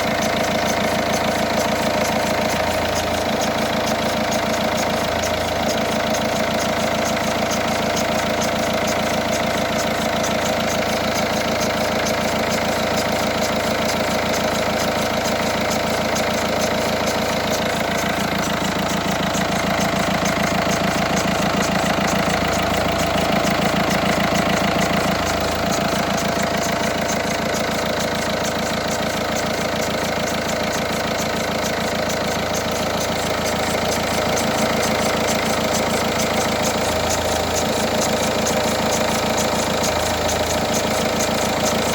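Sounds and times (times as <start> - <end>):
diesel engine idling: 0.0 - 41.9
strange engine noise: 0.0 - 41.9.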